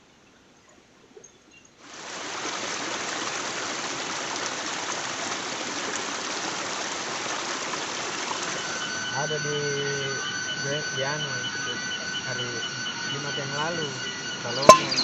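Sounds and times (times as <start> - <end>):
stream of running water: 1.2 - 15.0.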